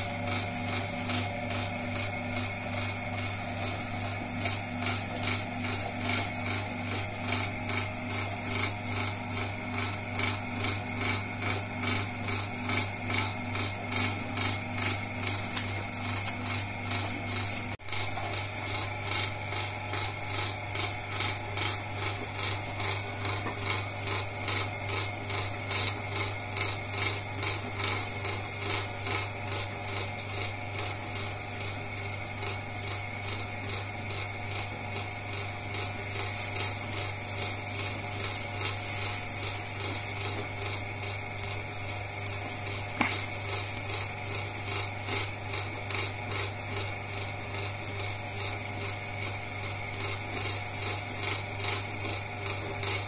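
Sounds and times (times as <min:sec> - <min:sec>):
potter's wheel humming: 0:00.0 - 0:53.0.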